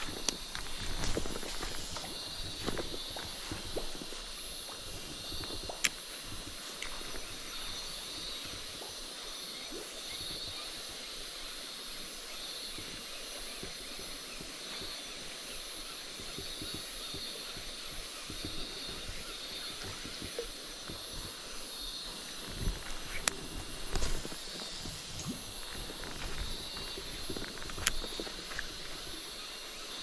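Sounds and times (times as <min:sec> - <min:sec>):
high insect drone: 0:00.0 - 0:30.0
pulsing insect chorus: 0:00.0 - 0:30.0.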